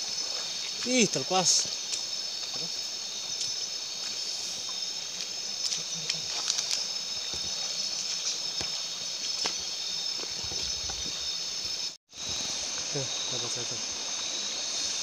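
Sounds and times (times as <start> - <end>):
stream water running over rocks: 0.0 - 15.0.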